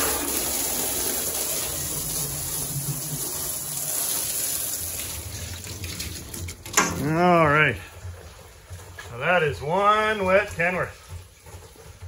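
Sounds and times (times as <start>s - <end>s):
hose spraying water on metal: 0.0s - 12.0s.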